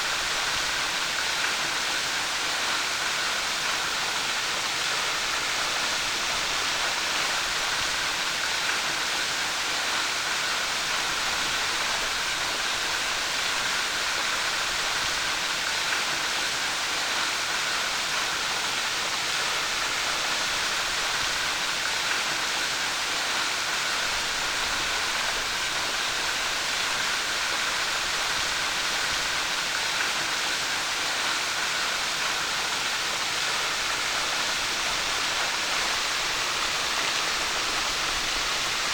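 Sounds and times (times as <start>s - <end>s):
waterfall splashing into pool: 0.1s - 38.9s.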